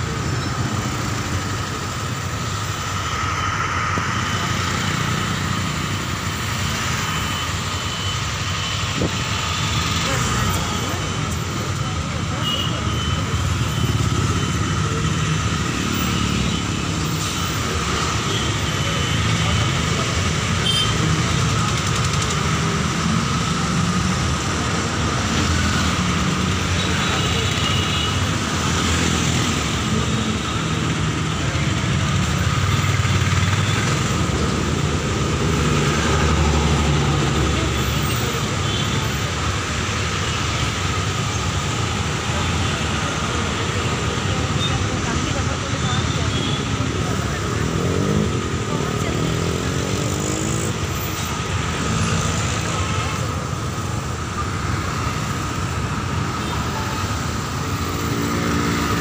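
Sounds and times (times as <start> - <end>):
engines rumbling: 0.0 - 59.0
passing cars and motorcycles: 0.0 - 59.0
road traffic noise: 0.0 - 59.0.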